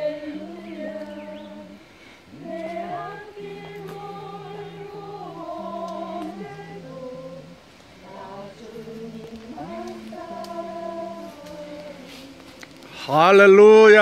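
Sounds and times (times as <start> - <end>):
group singing a hymn: 0.0 - 14.0.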